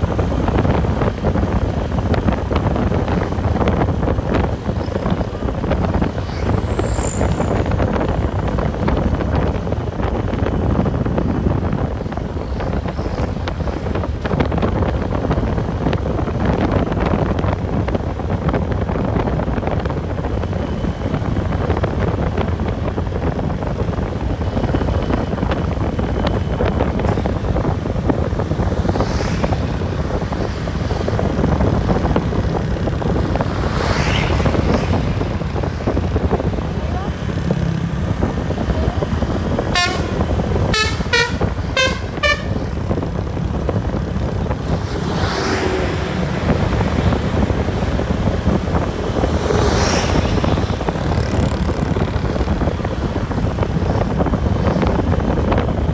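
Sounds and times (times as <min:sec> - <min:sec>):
vehicle road and engine noise: 0:00.0 - 0:55.9
wind buffeting microphone: 0:00.0 - 0:55.9.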